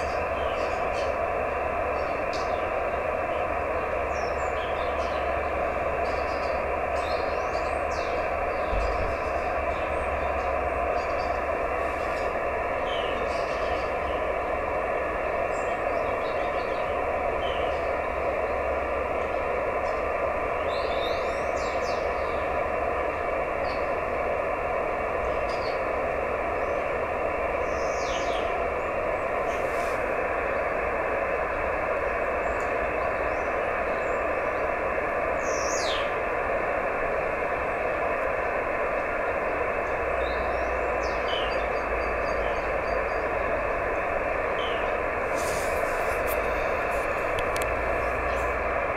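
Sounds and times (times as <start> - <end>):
radio receiver hiss: 0.0 - 48.9.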